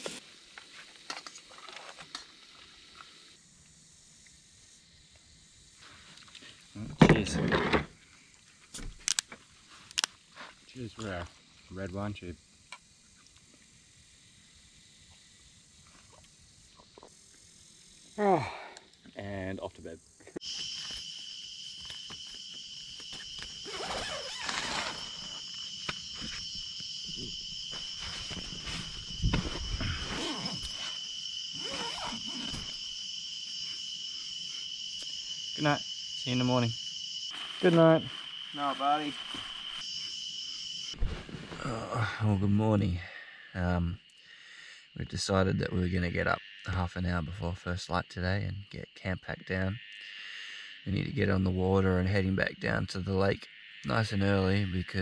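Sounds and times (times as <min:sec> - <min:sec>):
night insect chorus: 0:00.0 - 0:55.0.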